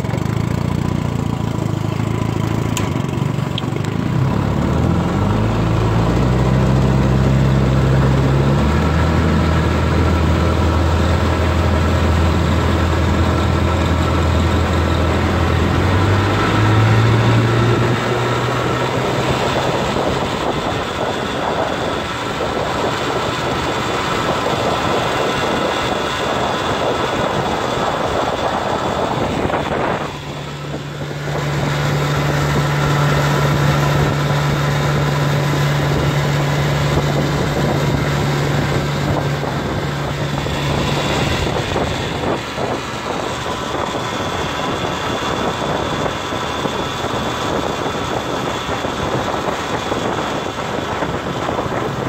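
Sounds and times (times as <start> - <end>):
outboard motor running: 0.0 - 52.0.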